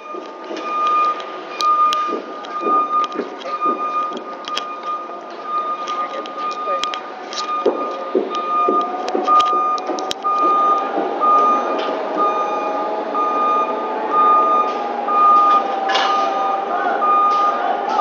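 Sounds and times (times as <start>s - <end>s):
truck reversing alarm beeping: 0.0s - 18.0s.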